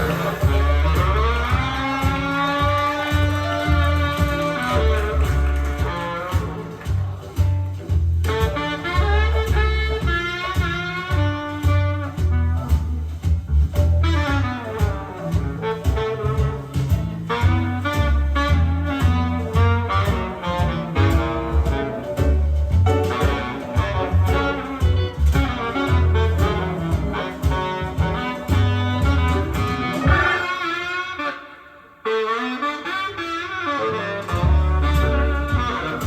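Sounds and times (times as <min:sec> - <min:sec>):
swing jazz with saxophone and bass: 0:00.0 - 0:36.0.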